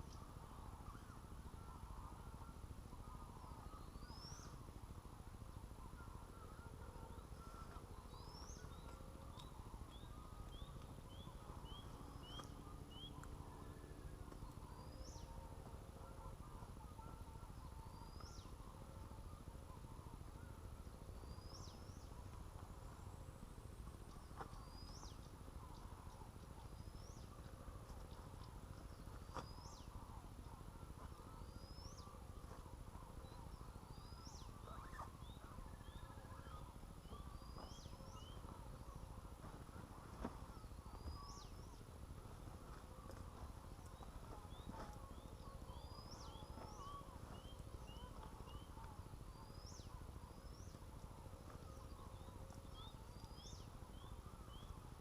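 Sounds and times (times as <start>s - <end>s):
birds chirping: 0.0s - 55.0s
faint low rumble: 0.0s - 55.0s.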